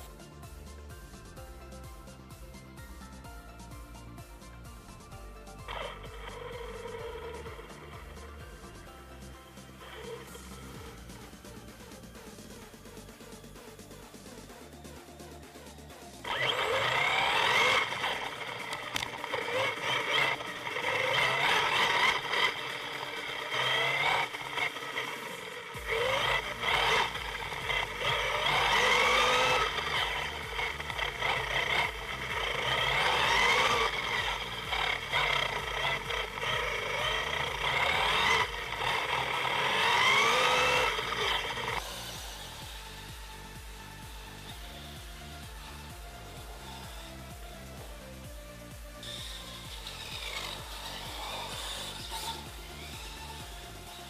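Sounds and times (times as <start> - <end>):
rc car motor whining: 5.0 - 14.5, 16.0 - 54.0.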